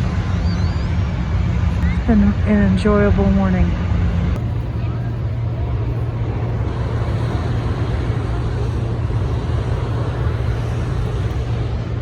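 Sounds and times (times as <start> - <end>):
continuous hum: 0.0 - 12.0
low engine rumble: 0.0 - 12.0
outdoor noise: 0.0 - 12.0.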